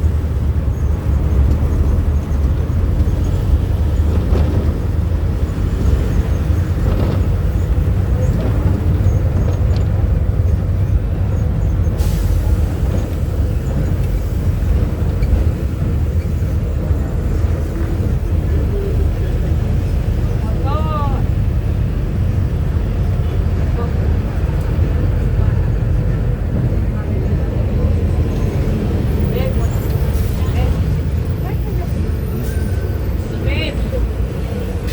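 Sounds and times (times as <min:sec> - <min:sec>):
bus diesel engine drone: 0:00.0 - 0:34.9.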